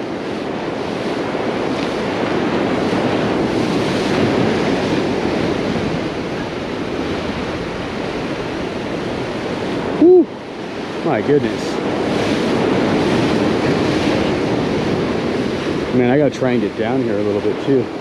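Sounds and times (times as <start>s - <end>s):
ocean surf breaking over rocks: 0.0s - 18.0s.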